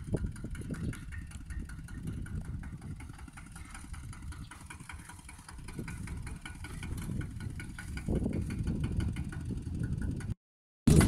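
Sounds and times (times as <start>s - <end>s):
diesel tractor engine chugging: 0.0s - 11.0s.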